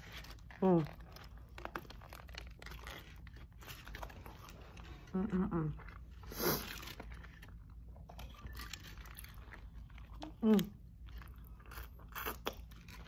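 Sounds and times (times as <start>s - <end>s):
wet chewing with mouth clicks: 0.0s - 13.0s.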